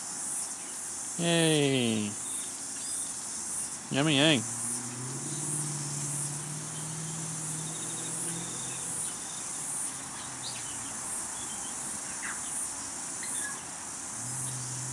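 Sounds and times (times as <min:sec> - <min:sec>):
chorus of insects droning: 0:00.0 - 0:14.9.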